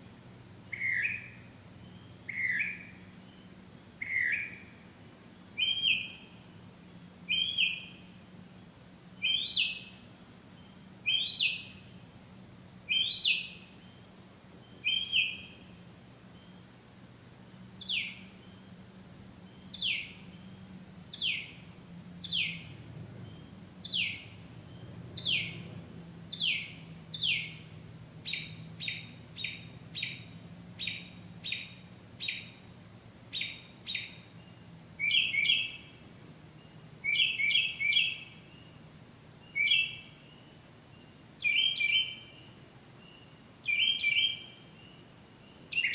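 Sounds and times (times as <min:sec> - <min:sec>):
bird singing: 0:00.7 - 0:16.8, 0:17.4 - 0:45.9.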